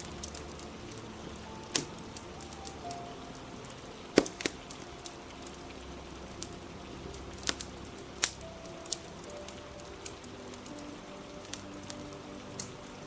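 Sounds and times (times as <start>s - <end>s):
steady hiss of rain: 0.0s - 13.0s
wood fire crackling and popping: 0.0s - 13.0s.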